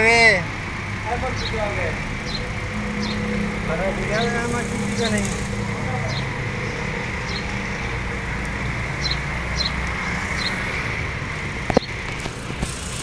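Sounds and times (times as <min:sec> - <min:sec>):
low motor hum: 0:00.5 - 0:13.0.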